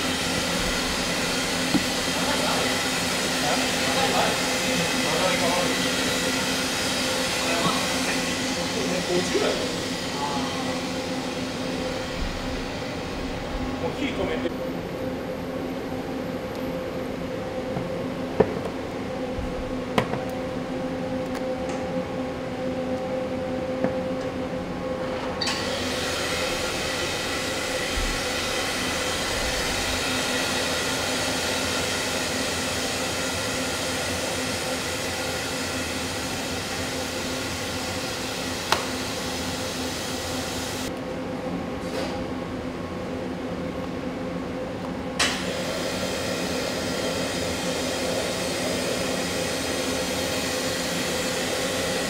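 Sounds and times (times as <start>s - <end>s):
machine humming: 0.0s - 52.0s
whine and hiss tones: 0.0s - 52.0s.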